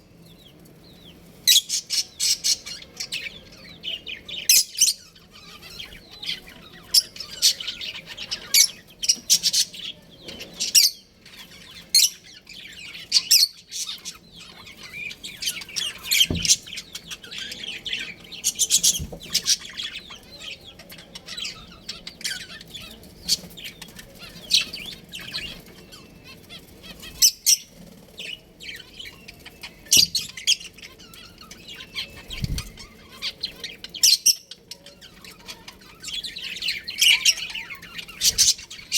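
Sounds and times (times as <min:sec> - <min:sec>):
budgerigars chirping: 0:00.3 - 0:38.9.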